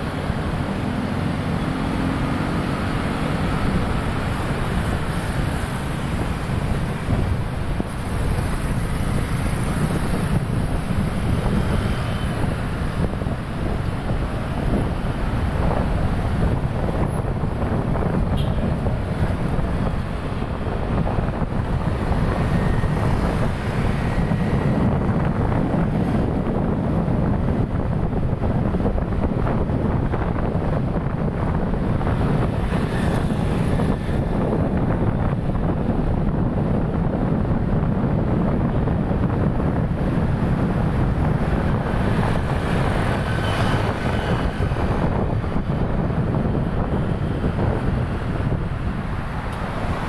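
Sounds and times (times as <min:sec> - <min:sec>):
traffic and engine noise: 0:00.0 - 0:50.0
wind rumble on microphone: 0:00.0 - 0:50.0.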